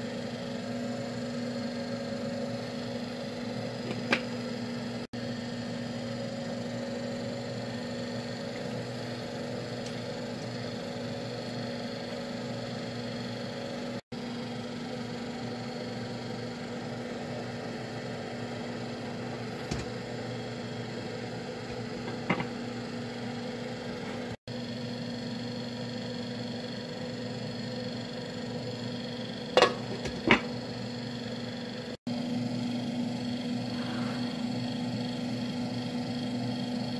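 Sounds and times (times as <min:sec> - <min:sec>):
electrical hum: 0:00.0 - 0:36.9.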